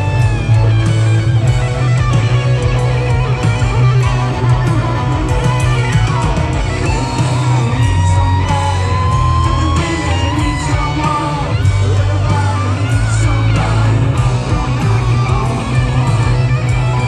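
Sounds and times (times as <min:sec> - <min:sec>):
crowd voices: 0:00.0 - 0:17.0
pitch-bending electric guitar lead: 0:00.0 - 0:17.0
rock band playing live: 0:00.0 - 0:17.0.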